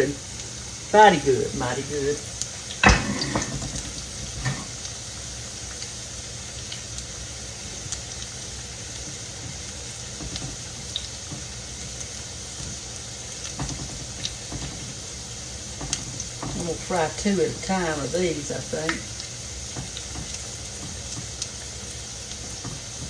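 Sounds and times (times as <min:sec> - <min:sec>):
food deep-frying sizzle: 0:00.0 - 0:23.0.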